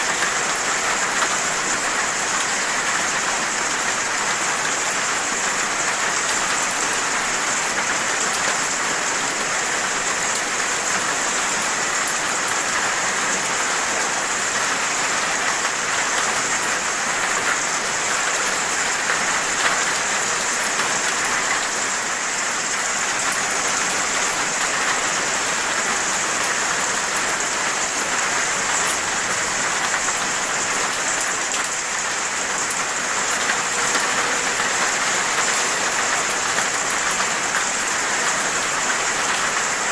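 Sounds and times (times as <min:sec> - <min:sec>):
heavy rain falling: 0:00.0 - 0:39.9
raindrops pattering on surfaces: 0:00.0 - 0:39.9.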